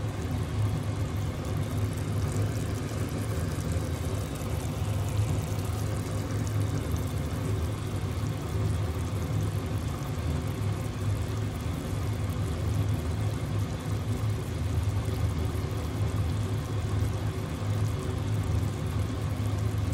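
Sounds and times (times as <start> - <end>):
low mechanical hum and whir: 0.0 - 19.9.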